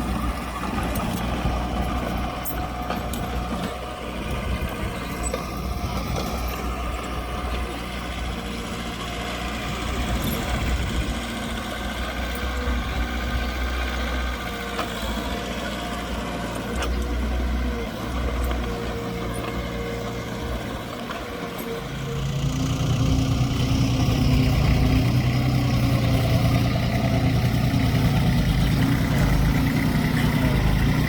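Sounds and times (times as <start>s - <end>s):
heavy machinery diesel engine running: 0.0s - 31.0s.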